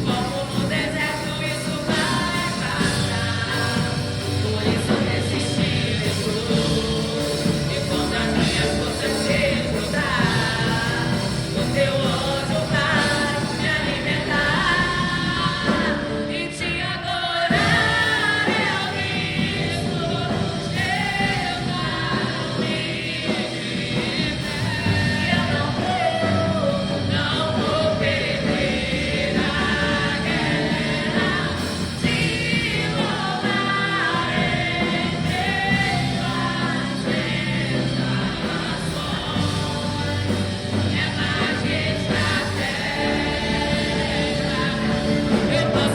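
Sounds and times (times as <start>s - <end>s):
singers performing gospel song: 0.0s - 45.9s
worship band playing: 0.0s - 45.9s.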